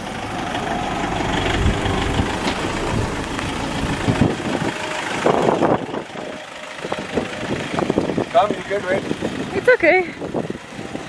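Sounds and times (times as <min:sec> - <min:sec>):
car engine under throttle: 0:00.0 - 0:11.0.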